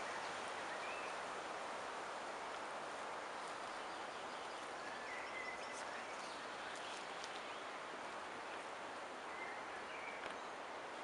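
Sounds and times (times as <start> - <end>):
wind through pine trees: 0.0 - 11.0.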